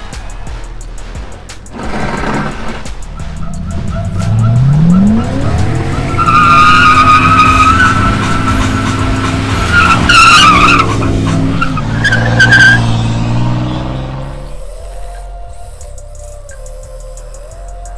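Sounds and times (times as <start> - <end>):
tyres squealing: 0.0 - 16.4
car engine revving: 0.0 - 17.9.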